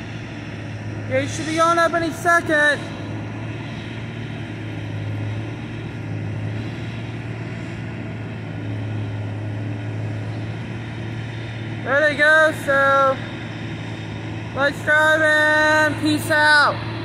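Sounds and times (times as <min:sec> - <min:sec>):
engine idling drone: 0:00.0 - 0:17.0.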